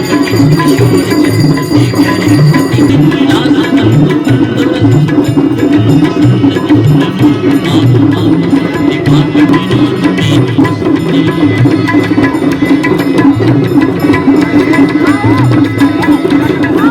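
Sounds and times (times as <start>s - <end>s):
devotional music with drumming: 0.0s - 16.9s.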